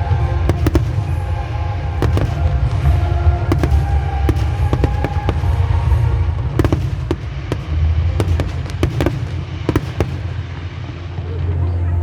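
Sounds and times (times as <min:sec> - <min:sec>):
fireworks bangs and pops: 0:00.0 - 0:11.4
steady low rumble: 0:00.0 - 0:12.0.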